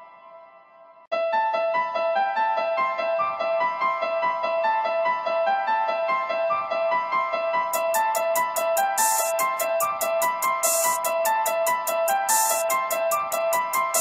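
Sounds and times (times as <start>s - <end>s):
electric piano music: 1.2s - 14.0s.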